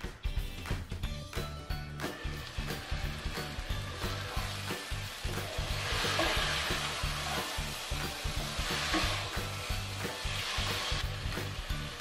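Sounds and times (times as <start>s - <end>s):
background music with low beat: 0.0s - 12.0s
vegetables sizzling in a pot: 1.6s - 12.0s.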